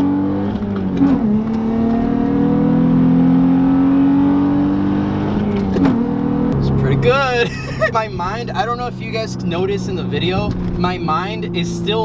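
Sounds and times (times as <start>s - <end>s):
car engine accelerating through gears: 0.0s - 12.0s.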